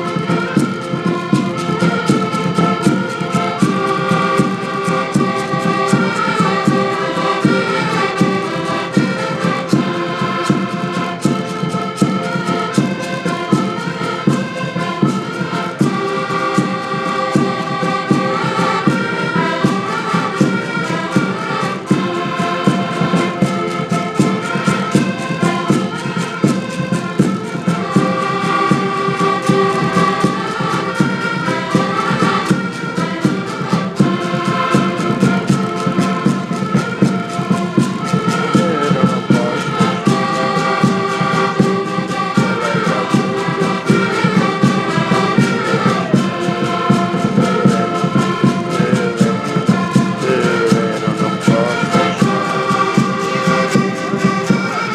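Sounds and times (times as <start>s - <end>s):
accordions playing a tune: 0.0s - 54.9s.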